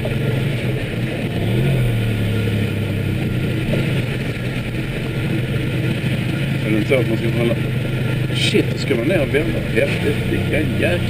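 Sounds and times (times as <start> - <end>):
car engine running at low speed: 0.0 - 11.0.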